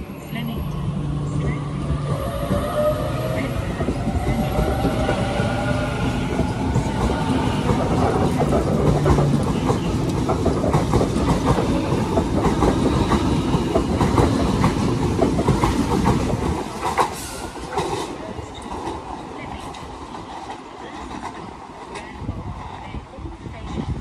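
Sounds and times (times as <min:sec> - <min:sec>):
electric train rumbling past: 0:00.0 - 0:24.0.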